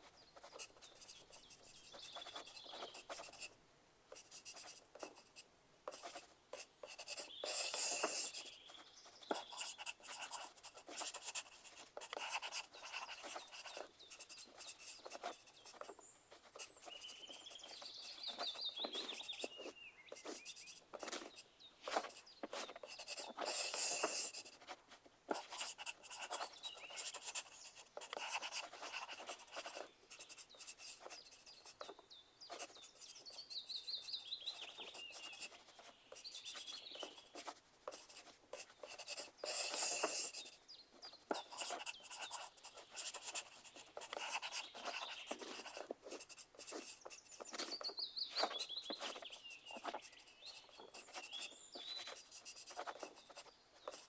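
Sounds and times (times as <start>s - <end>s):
pencil scratching on paper: 0.0s - 54.0s.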